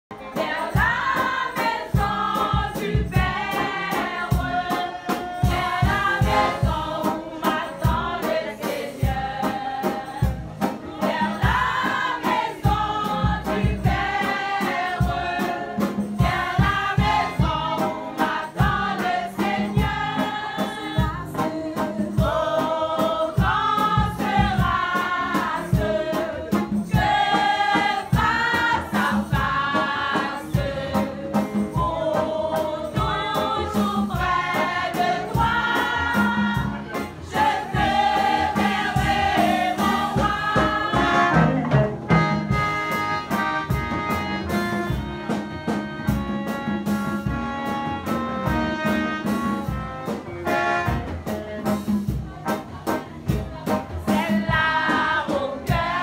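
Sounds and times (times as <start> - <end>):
women's choir singing gospel: 0.1 - 41.6, 47.2 - 56.0.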